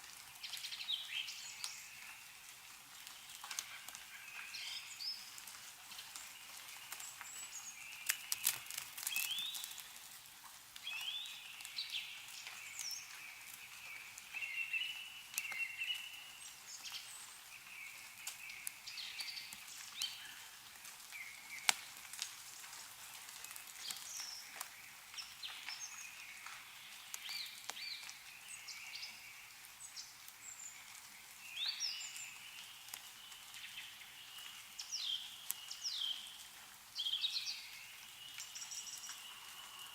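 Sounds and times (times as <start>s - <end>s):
faint outdoor hiss: 0.0s - 39.9s
meltwater dripping ticks: 0.0s - 39.9s
small birds chirping: 0.0s - 39.9s.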